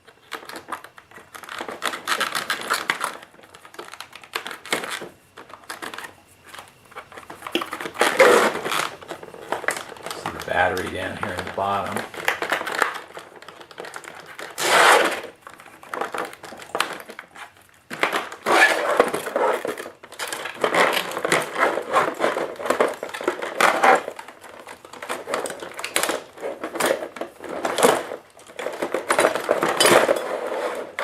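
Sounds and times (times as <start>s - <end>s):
packaging rustling and crinkling: 0.0s - 31.0s.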